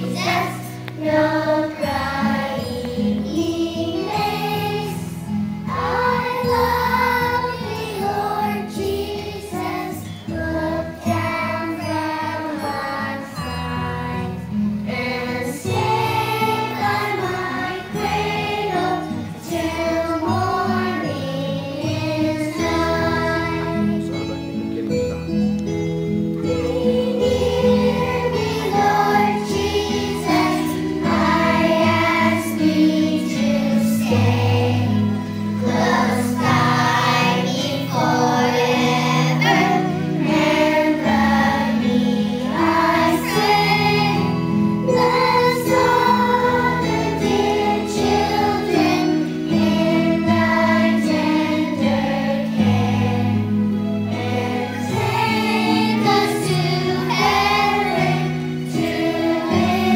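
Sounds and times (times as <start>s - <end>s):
children singing in unison: 0.0s - 24.4s, 26.4s - 59.9s
musical accompaniment: 0.0s - 59.9s.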